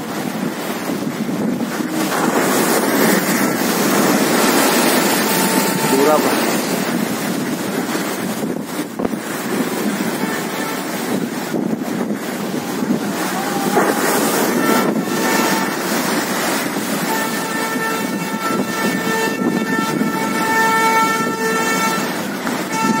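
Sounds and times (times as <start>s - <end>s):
strong wind on microphone: 0.0s - 23.0s
surf breaking against a wall: 0.3s - 19.0s
steady horn tone: 1.6s - 11.6s, 12.4s - 23.0s.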